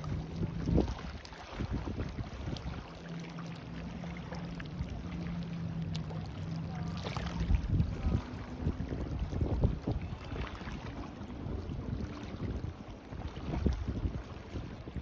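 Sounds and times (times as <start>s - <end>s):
distant motorboat engine hum: 0.0s - 15.0s
water lapping: 0.0s - 15.0s
wind rumble on microphone: 0.0s - 15.0s.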